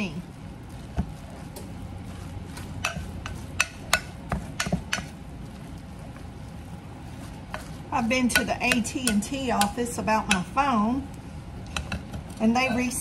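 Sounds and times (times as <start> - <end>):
spatula mashing salmon: 0.0 - 12.4.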